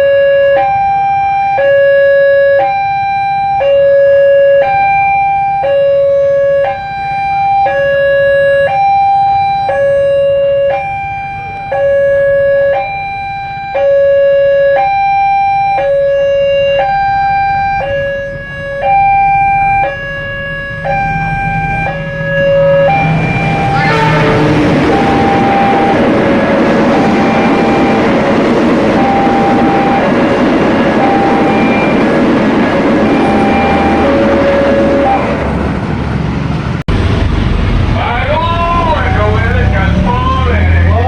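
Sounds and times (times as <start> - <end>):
level crossing two-tone alarm: 0.0 - 35.4.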